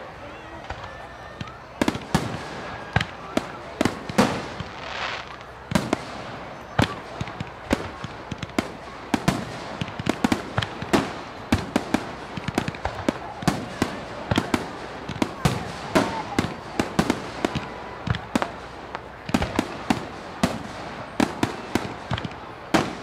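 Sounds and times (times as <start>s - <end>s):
fireworks hissing crackle: 0.0s - 23.0s
fireworks bangs and pops: 0.1s - 23.0s.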